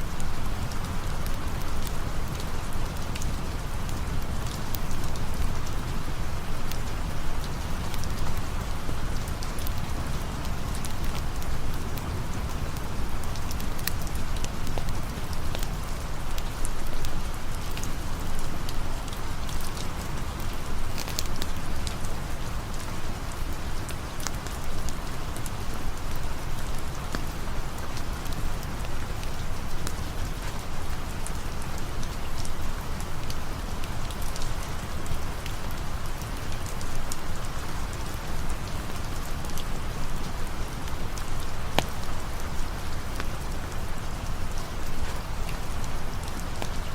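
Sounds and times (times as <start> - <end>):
raindrops ticking: 0.0 - 46.9
steady rain hiss: 0.0 - 46.9.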